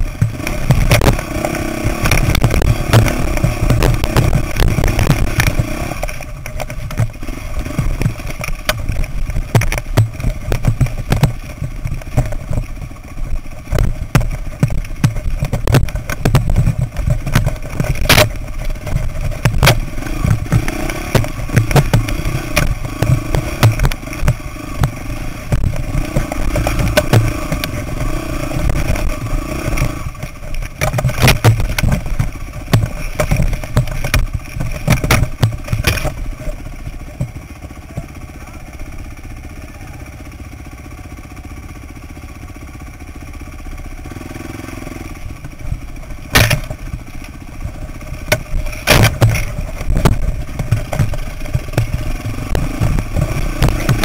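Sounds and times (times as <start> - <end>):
knocks and rattles from rocks: 0.0 - 38.2, 45.3 - 54.0
dirt bike engine running: 0.0 - 54.0.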